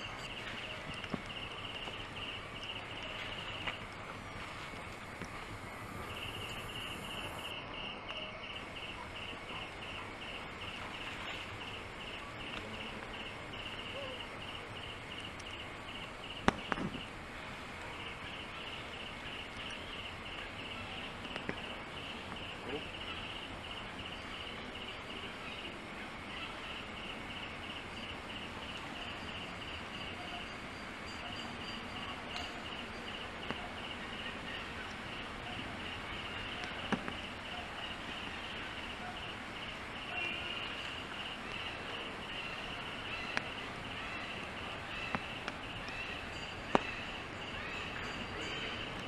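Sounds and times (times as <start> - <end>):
insects chirping: 0.0 - 49.0
outdoor background hiss: 0.0 - 49.0.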